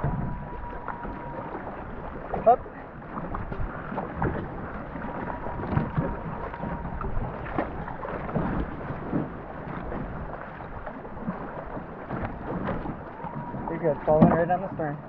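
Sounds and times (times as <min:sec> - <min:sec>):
paddle strokes splashing: 0:00.0 - 0:15.0
water and wind rushing: 0:00.0 - 0:15.0.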